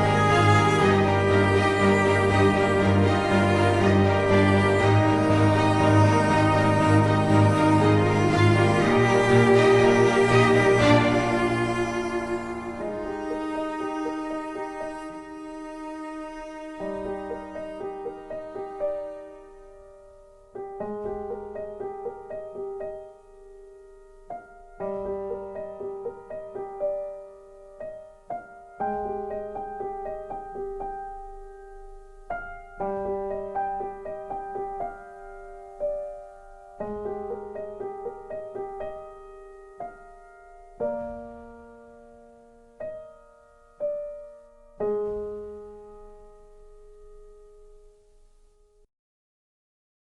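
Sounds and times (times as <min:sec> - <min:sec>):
slow gentle piano: 0:00.0 - 0:48.9.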